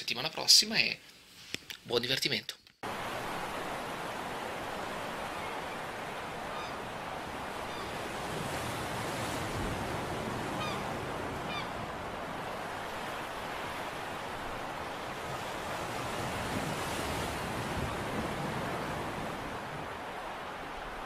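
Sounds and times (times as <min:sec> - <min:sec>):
surf washing onto rocks: 0:02.8 - 0:21.0.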